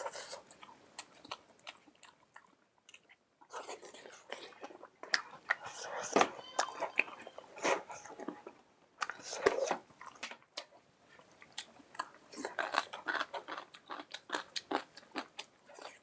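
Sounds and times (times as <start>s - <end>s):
person chewing crisp food: 0.0s - 16.0s.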